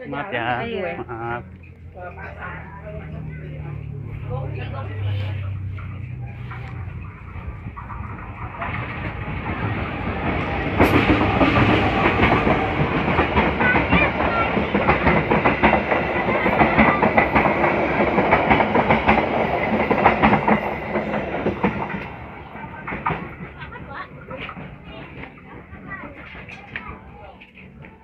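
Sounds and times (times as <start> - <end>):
train wheels clattering over rail joints: 5.6 - 28.0.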